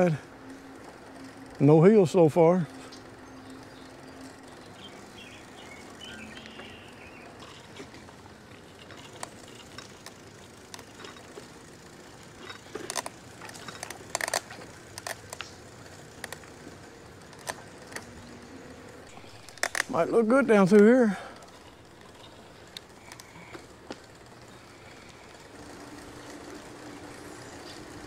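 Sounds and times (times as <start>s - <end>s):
bicycle tyre and wind noise: 0.0s - 28.0s
bike parts clicking and rattling: 0.0s - 28.0s.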